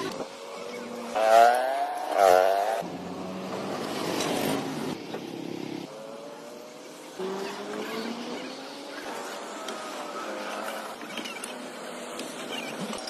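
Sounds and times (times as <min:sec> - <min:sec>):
vehicle engine revving: 0:00.0 - 0:11.1.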